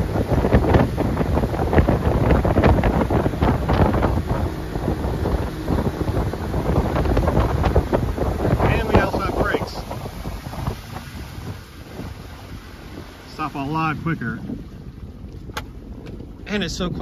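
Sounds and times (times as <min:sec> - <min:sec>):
boat engine running quietly: 0:00.0 - 0:17.0
water rushing past hull: 0:00.0 - 0:17.0
wind buffeting microphone: 0:00.0 - 0:17.0.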